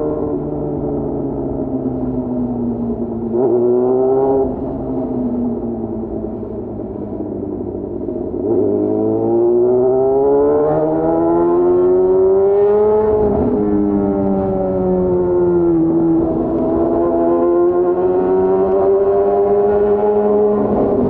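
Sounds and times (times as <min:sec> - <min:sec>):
motorcycle engine revving: 0:02.7 - 0:21.0.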